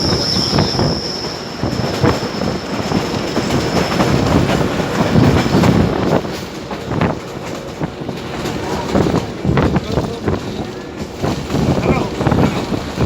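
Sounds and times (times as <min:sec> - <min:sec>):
train rattling and rumbling on track: 0:00.0 - 0:13.0
wheels clanking: 0:00.0 - 0:13.0.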